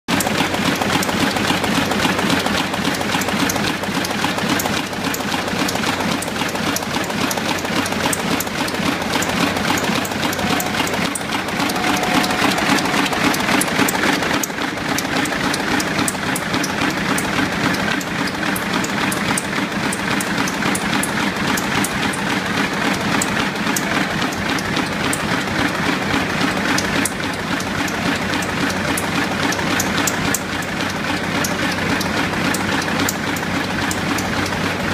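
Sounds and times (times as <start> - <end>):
printing press mechanical din: 0.1 - 34.9
rapid clicking of sheets: 0.1 - 34.9.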